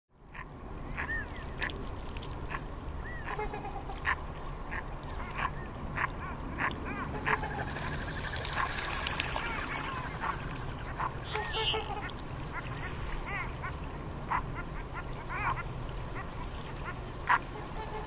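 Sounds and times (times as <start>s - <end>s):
waterbirds honking and quacking: 0.2s - 18.0s.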